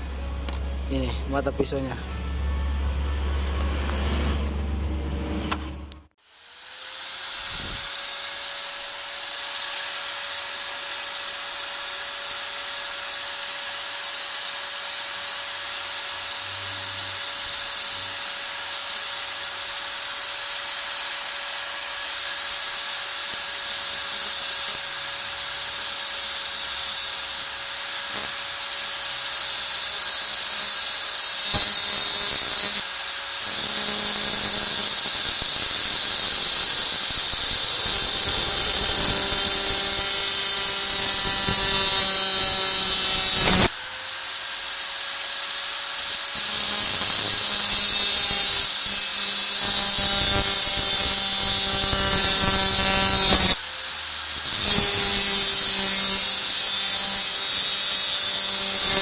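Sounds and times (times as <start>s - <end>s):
angle grinder grinding steel: 0.0s - 59.0s.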